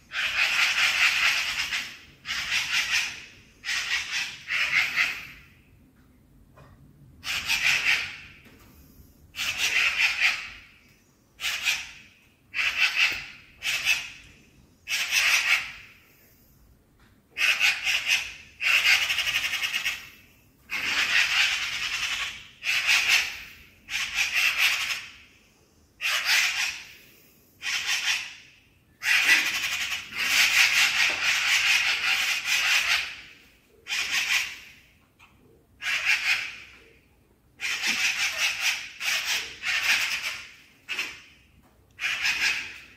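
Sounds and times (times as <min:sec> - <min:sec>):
magpie alarm chatter: 0:00.1 - 0:05.6, 0:07.2 - 0:08.4, 0:09.4 - 0:10.8, 0:11.4 - 0:16.2, 0:17.4 - 0:25.2, 0:26.0 - 0:34.9, 0:35.8 - 0:36.8, 0:37.6 - 0:41.4, 0:42.0 - 0:42.9.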